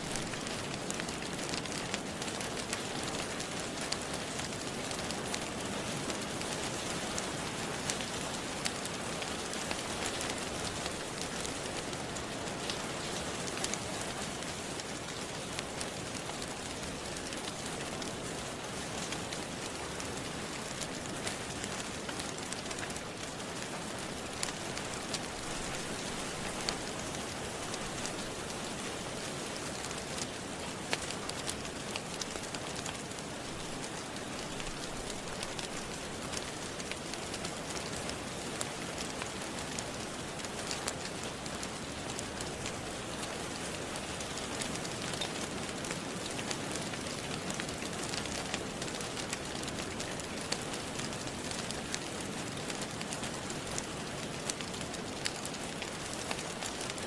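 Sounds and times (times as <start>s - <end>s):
steady rain falling: 0.0s - 57.0s
wood fire crackling and popping: 0.0s - 57.0s.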